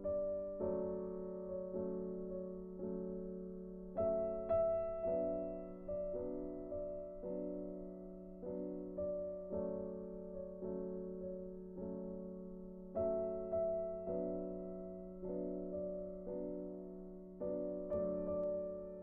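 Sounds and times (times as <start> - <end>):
soft slow piano melody: 0.0 - 19.0.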